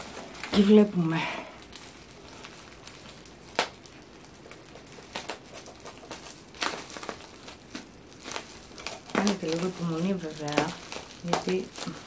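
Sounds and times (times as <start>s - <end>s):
packaging rustling: 0.0s - 12.0s
sharp packaging crackles: 0.0s - 12.0s.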